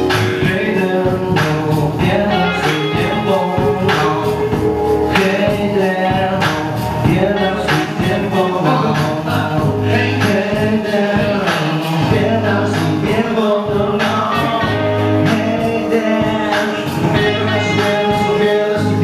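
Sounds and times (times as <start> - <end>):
electric guitar: 0.0 - 19.0
men singing: 0.0 - 19.0.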